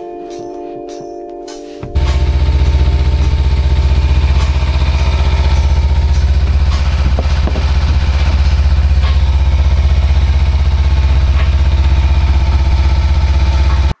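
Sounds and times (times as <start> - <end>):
motorcycle engine idling: 1.9 - 14.0.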